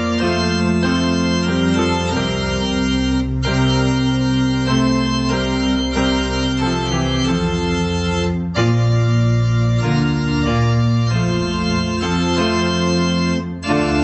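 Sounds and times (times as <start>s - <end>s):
organ playing hymn chords: 0.0s - 14.0s.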